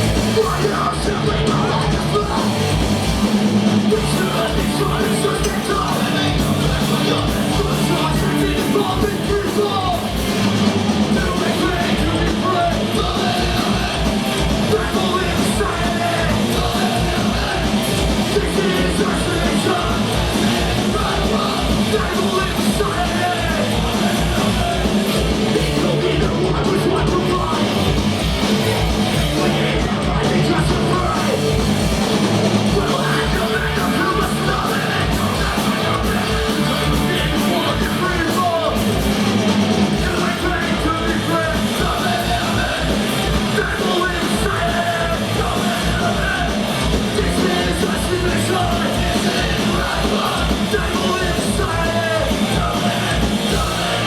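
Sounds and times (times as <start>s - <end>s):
fast drumbeat: 0.0s - 54.0s
punk rock band playing live: 0.0s - 54.0s.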